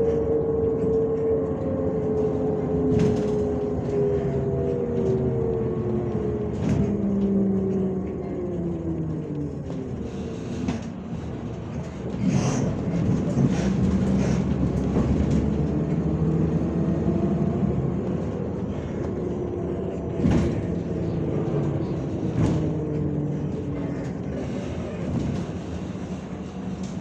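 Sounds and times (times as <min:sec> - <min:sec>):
bus diesel engine running: 0:00.0 - 0:27.0
road noise: 0:00.0 - 0:27.0
bus body knocking and rattling: 0:00.3 - 0:27.0.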